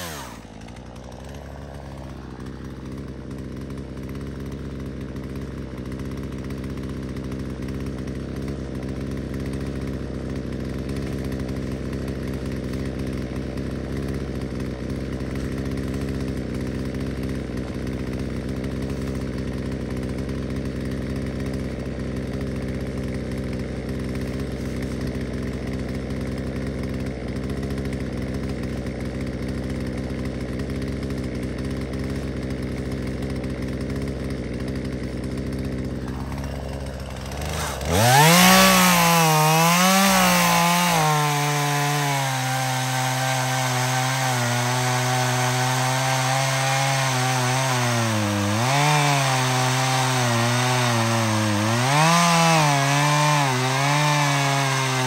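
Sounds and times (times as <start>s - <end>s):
chainsaw cutting wood: 0.0s - 55.0s
chainsaw idling and revving: 0.0s - 55.0s.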